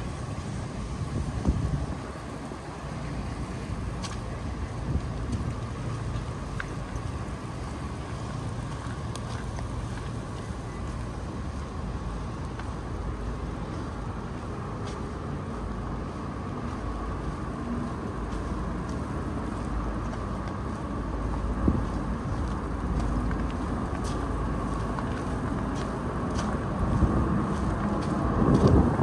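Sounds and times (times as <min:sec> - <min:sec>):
street traffic rumble: 0:00.0 - 0:29.0
wind buffeting microphone: 0:00.0 - 0:29.0.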